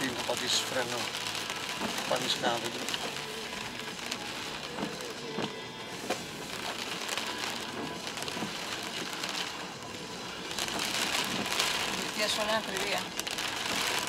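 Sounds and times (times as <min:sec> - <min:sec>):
tyres crackling over loose ground: 0:00.0 - 0:09.8, 0:10.5 - 0:14.0
car road noise: 0:00.0 - 0:14.0.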